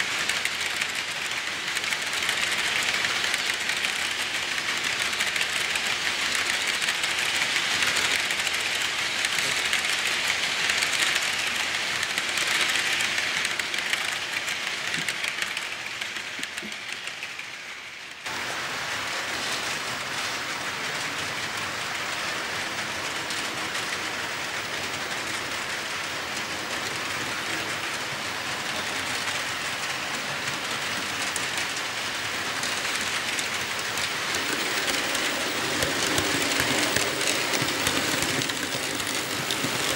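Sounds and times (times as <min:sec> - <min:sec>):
model train wheels clattering on rails: 0:00.0 - 0:39.9.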